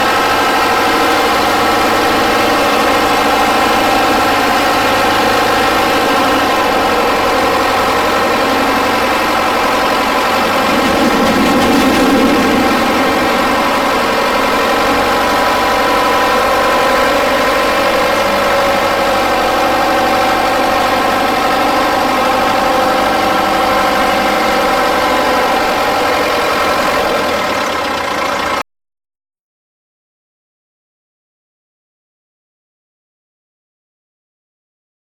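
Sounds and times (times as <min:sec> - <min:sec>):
diesel tractor engine running: 0:00.0 - 0:28.6.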